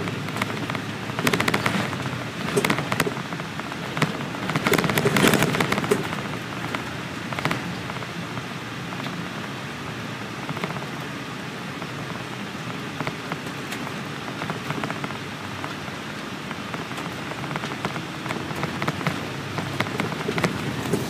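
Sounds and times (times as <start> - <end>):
small rattles and clicks: 0.0 - 9.2, 10.4 - 11.1, 11.8 - 21.0
bus engine and road noise: 0.0 - 21.0.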